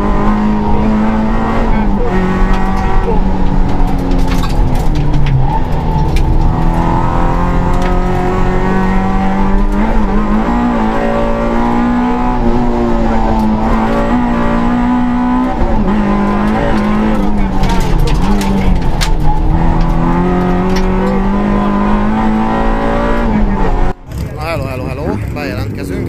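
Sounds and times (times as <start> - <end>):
rally car engine from inside cabin: 0.0 - 26.0.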